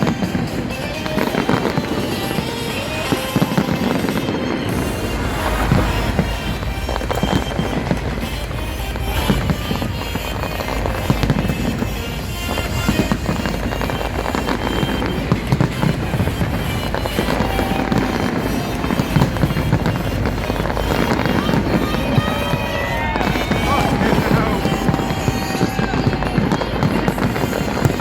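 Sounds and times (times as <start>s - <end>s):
continuous rumble: 0.0s - 28.0s
crowd voices: 0.0s - 28.0s
fireworks bursting: 0.0s - 28.0s
loud music playing: 0.0s - 28.0s.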